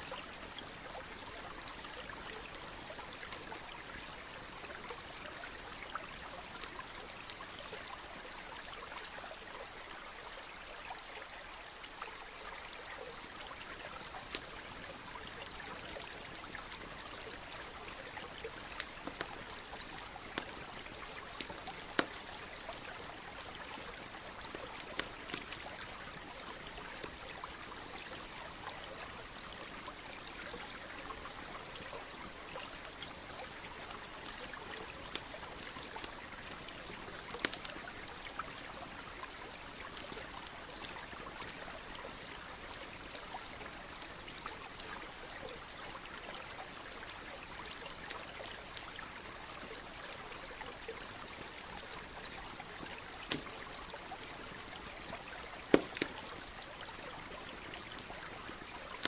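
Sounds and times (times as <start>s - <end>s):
campfire crackling and popping: 0.0s - 10.6s, 12.4s - 59.0s
stream flowing: 0.0s - 59.0s.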